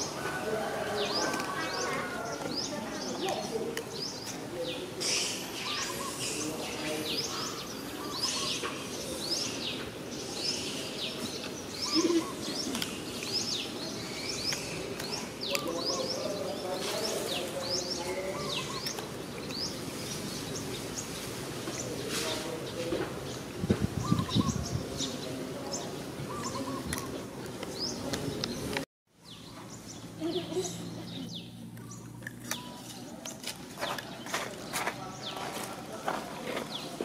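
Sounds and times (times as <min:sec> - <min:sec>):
outdoor background noise: 0:00.0 - 0:37.0
small birds chirping: 0:00.9 - 0:37.0.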